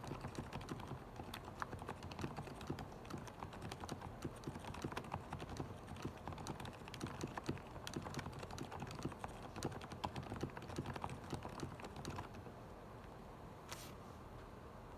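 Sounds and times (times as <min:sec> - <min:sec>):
mechanical keyboard typing: 0:00.0 - 0:12.4.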